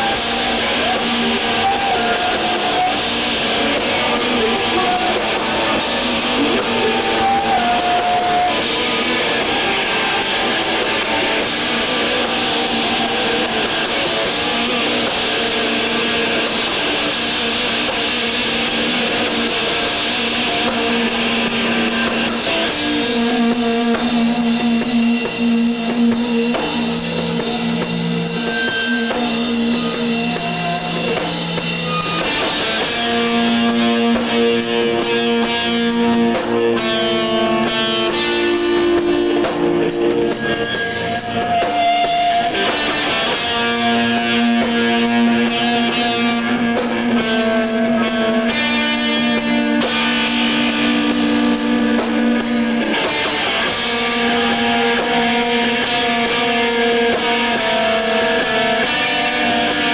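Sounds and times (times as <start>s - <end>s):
drum kit with cymbal wash: 0.0s - 59.9s
loud electric guitars: 0.0s - 59.9s.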